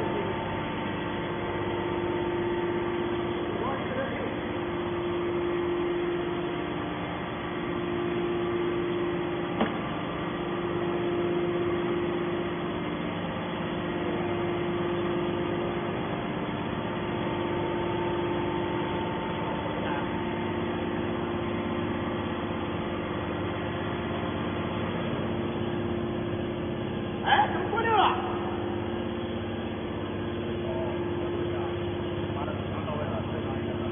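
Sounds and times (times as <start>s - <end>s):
machine hum: 0.0s - 33.9s.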